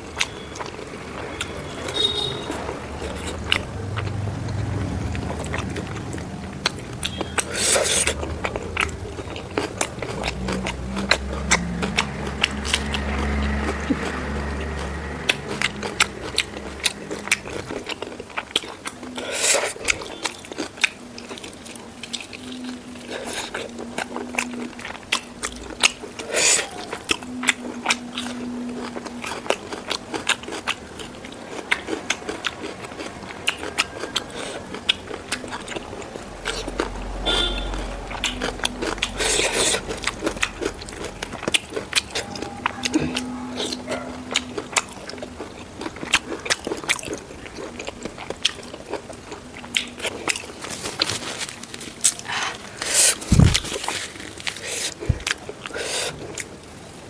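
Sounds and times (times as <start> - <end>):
chewing with small crunches: 0.0 - 57.0.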